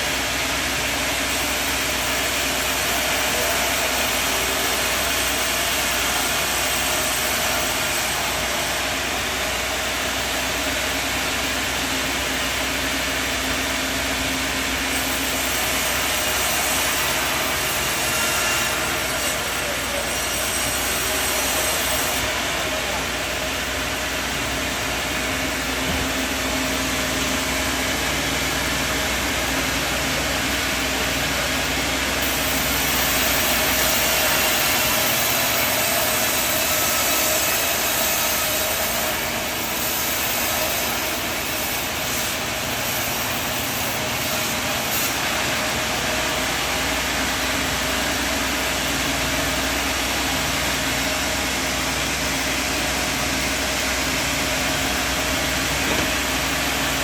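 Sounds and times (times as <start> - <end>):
sawmill machinery whirring: 0.0 - 57.0.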